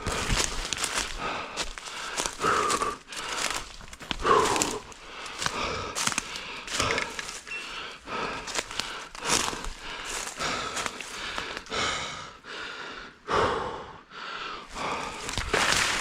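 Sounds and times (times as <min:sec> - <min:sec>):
footsteps crunching through leaves: 0:00.0 - 0:11.7, 0:14.8 - 0:16.0
heavy breaths: 0:00.0 - 0:16.0.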